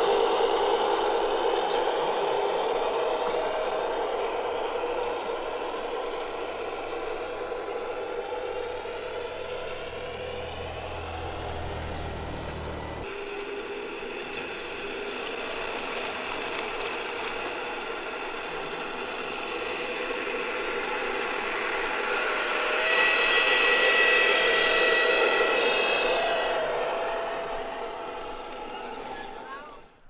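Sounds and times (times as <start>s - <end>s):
model train motors whining: 0.0s - 30.0s
wheels rattling on rails: 0.0s - 30.0s.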